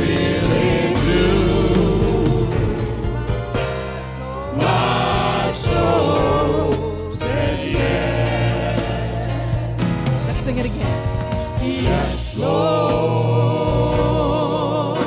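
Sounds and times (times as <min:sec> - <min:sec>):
band with steady bass: 0:00.0 - 0:15.0
choir singing gospel: 0:00.0 - 0:15.0.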